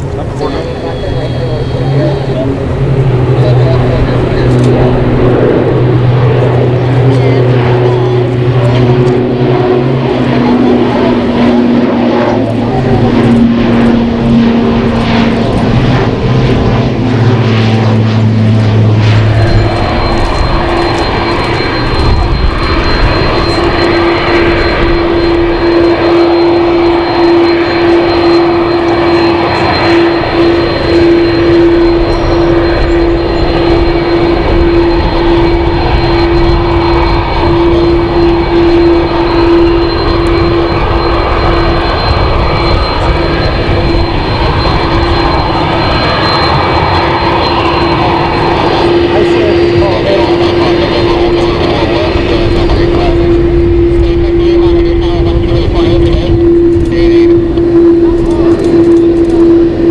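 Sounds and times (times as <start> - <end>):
jet engines whining: 0.0 - 59.9
turboprop drone: 0.0 - 59.9.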